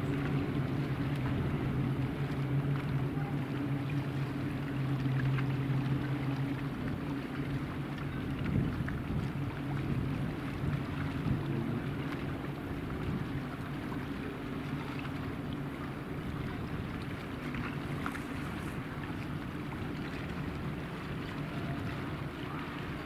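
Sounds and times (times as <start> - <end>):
turboprop planes droning: 0.0 - 23.0.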